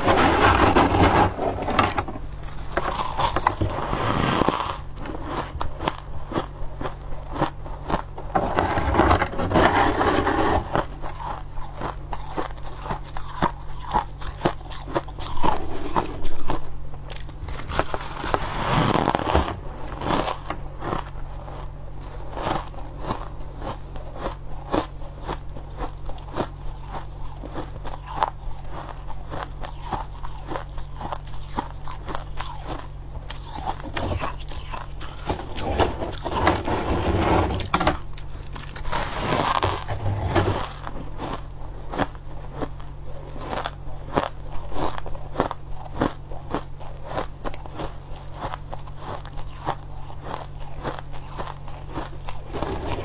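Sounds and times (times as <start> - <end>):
crushed ice being chewed: 0.0 - 53.0
steady low hum: 0.0 - 53.0.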